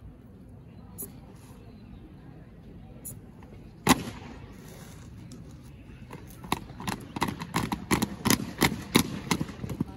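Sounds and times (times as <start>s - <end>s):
low background noise: 0.0s - 9.9s.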